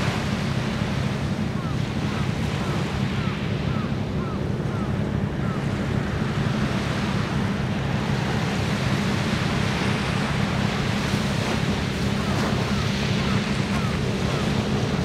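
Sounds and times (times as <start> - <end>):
sea washing: 0.0 - 15.0.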